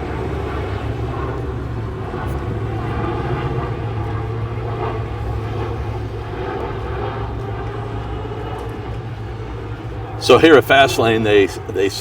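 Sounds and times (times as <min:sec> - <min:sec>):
low engine drone: 0:00.0 - 0:12.0
outdoor background noise: 0:00.0 - 0:12.0.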